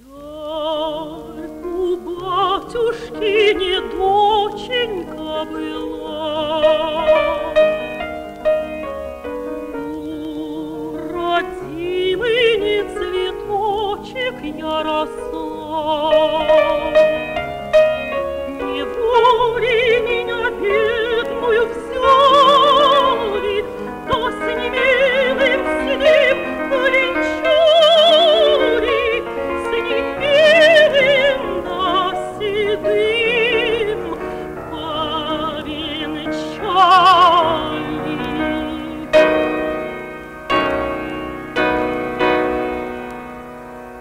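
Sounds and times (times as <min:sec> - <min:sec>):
woman singing operatically: 0:00.0 - 0:08.0, 0:09.8 - 0:39.8
piano accompaniment: 0:00.0 - 0:44.0.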